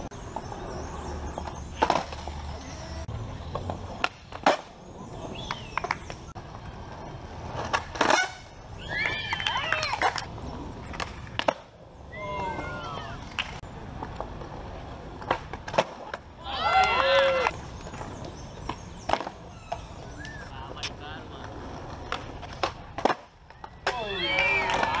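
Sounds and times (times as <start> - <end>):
skateboard wheels rolling on concrete: 0.0 - 25.0
skateboard clacks: 0.2 - 11.8, 12.5 - 25.0.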